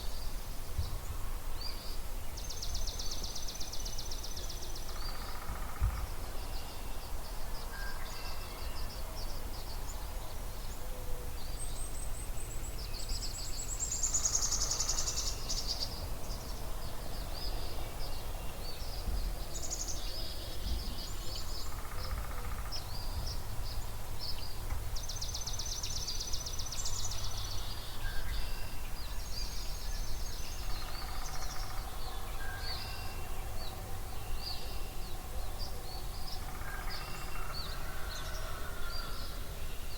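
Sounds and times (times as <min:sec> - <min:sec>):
songbirds singing and trilling: 0:00.0 - 0:39.9.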